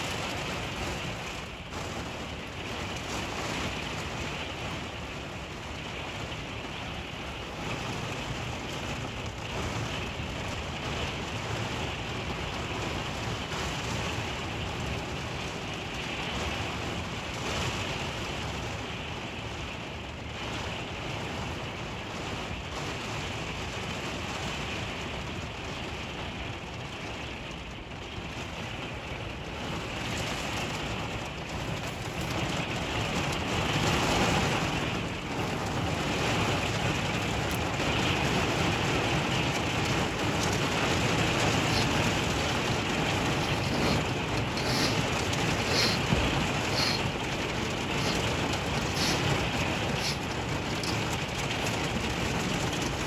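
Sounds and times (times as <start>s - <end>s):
heavy rain on vehicle roof: 0.0s - 53.0s.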